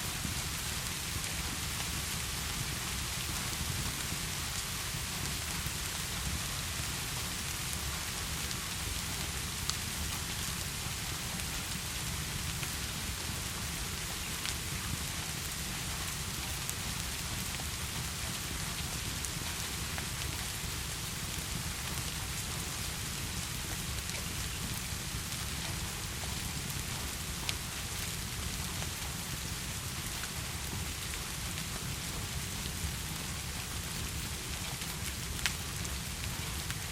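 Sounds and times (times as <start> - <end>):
heavy rain falling: 0.1 - 36.9.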